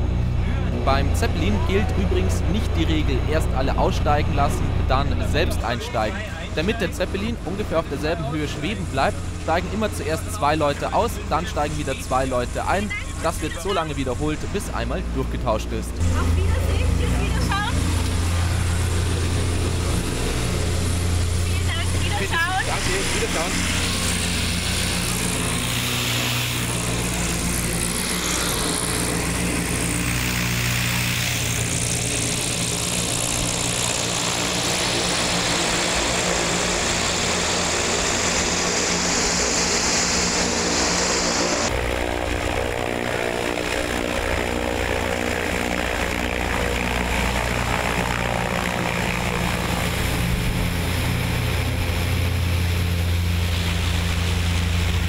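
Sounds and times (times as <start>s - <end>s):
airship propeller engines running: 0.0s - 55.0s.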